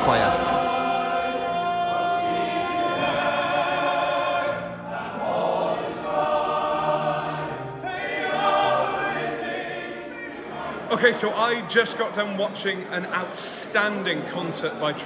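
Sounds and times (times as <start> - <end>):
male voice choir singing: 0.0 - 15.0.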